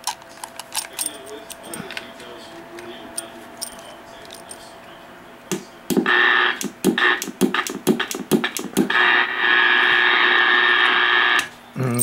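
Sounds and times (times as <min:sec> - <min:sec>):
speaker hiss with whine: 0:00.0 - 0:12.0.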